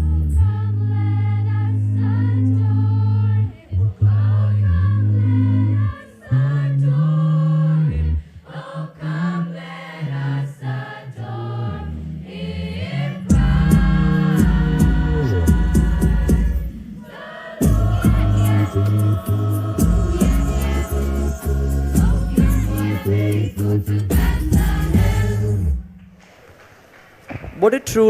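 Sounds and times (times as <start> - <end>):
girls choir singing: 0.0 - 25.8.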